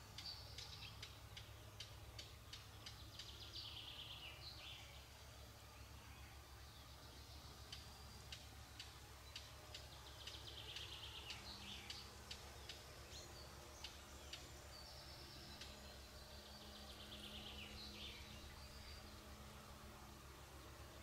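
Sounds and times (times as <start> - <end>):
faint steady drone: 0.0 - 21.0
low steady hum: 0.0 - 21.0
songbirds chirping and trilling: 0.0 - 21.0.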